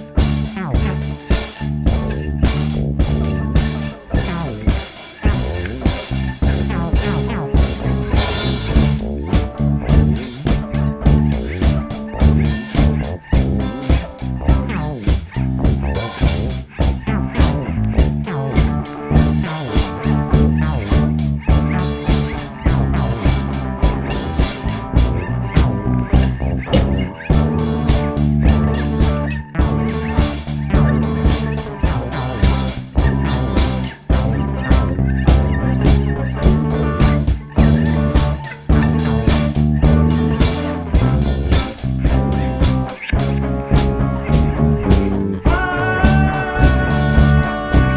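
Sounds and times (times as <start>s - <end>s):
bass guitar: 0.0s - 47.9s
drum kit steady beat: 0.0s - 47.9s
electric guitar sliding notes: 0.0s - 47.9s.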